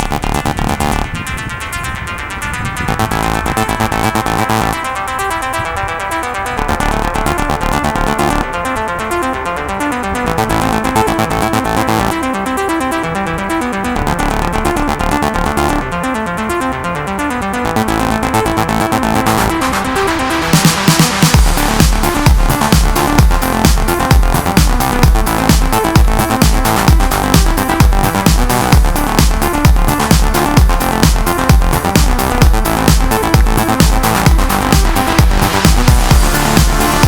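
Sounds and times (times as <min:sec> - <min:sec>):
electronic dance music: 0:00.0 - 0:37.0.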